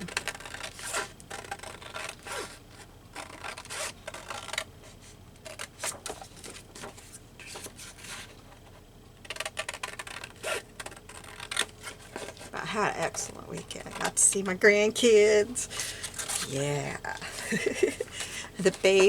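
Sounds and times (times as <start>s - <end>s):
paper rustling and scraping: 0.0s - 19.0s.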